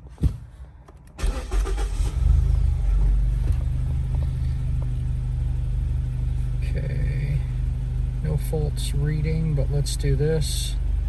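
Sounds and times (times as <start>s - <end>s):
car engine starting and idling: 0.1s - 11.0s.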